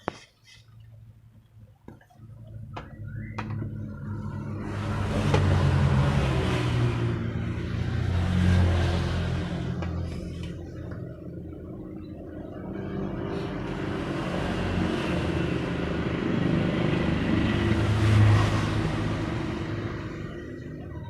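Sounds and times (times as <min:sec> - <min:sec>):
vehicle passing by: 0:03.2 - 0:21.0.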